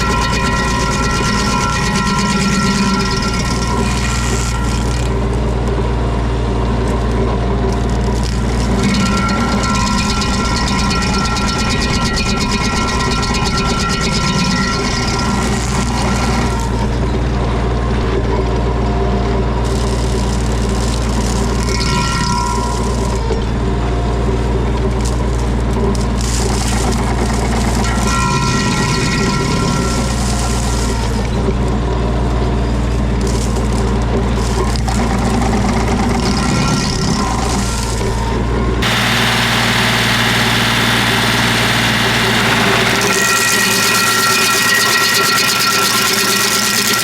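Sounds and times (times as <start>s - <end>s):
tractor engine running: 0.0s - 21.6s, 22.7s - 47.0s.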